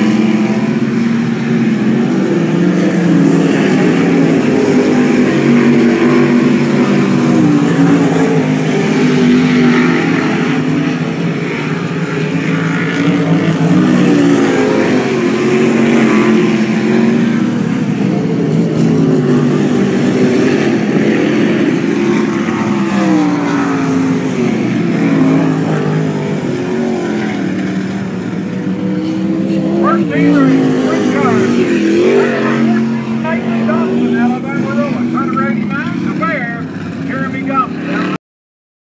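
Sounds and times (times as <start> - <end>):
race car engines: 0.0 - 38.2.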